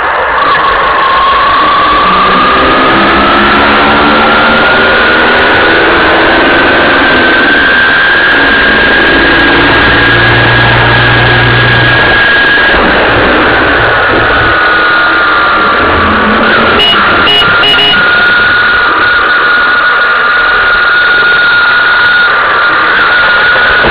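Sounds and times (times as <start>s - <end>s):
road noise: 0.0s - 23.9s
vehicle engine whine: 0.0s - 23.9s.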